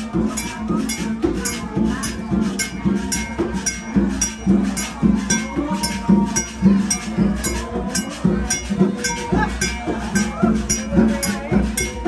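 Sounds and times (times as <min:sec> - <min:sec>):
drum beat: 0:00.0 - 0:12.0
small metal cymbals clinking: 0:00.0 - 0:12.0.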